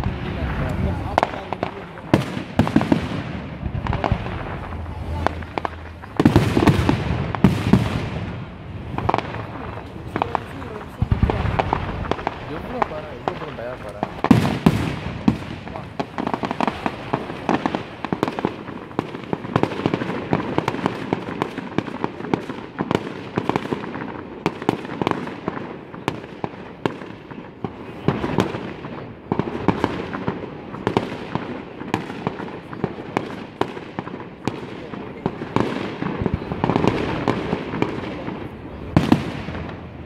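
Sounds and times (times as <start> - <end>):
firework shells bursting: 0.0 - 38.4.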